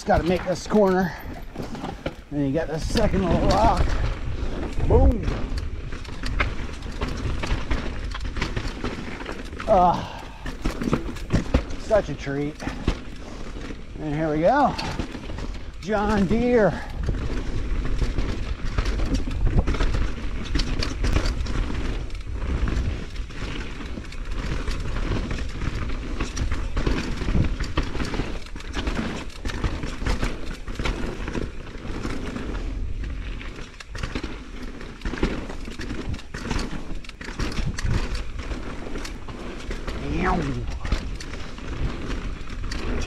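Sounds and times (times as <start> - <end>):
bike rattling with sharp knocks: 0.0 - 43.0
tyres rolling over dirt and rocks: 0.0 - 43.0
wind rumble on microphone: 0.0 - 43.0.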